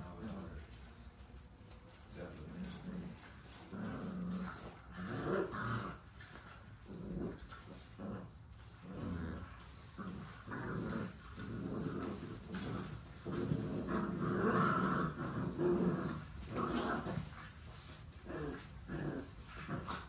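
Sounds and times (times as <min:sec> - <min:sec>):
puppies growling: 0:00.0 - 0:20.0.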